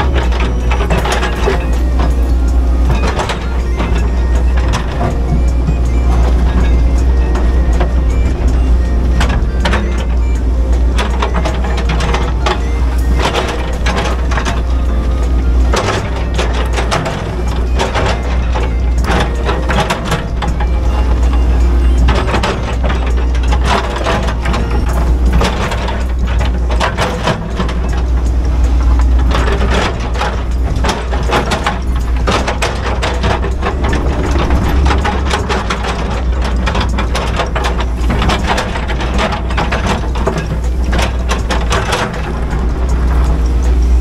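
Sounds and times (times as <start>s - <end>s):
clunks and cracks: 0.0s - 44.0s
excavator diesel engine running: 0.0s - 44.0s.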